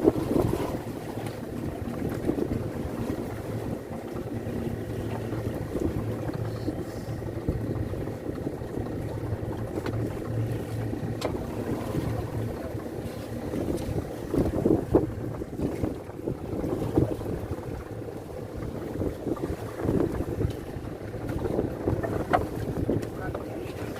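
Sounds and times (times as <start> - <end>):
boat engine humming: 0.0 - 23.9
wind buffeting microphone: 0.0 - 23.9.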